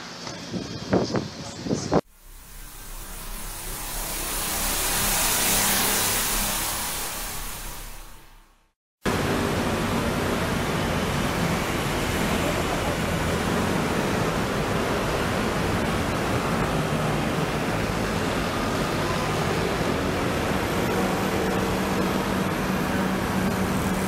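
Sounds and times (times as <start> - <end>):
busy road traffic: 0.0 - 8.4, 9.1 - 24.0.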